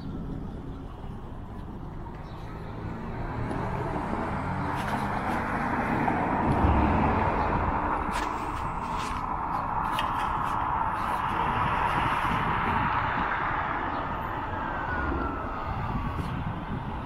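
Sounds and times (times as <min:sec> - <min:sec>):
car passing: 0:01.5 - 0:17.0.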